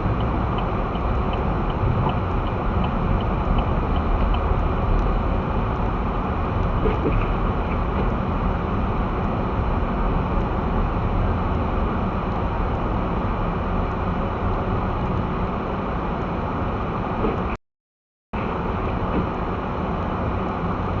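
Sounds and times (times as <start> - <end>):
car tyres and engine rumble on snow: 0.0 - 17.6, 18.4 - 21.0.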